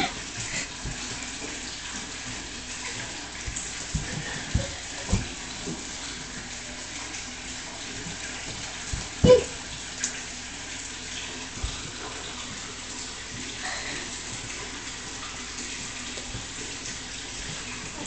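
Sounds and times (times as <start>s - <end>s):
water running from a tap: 0.0s - 18.0s.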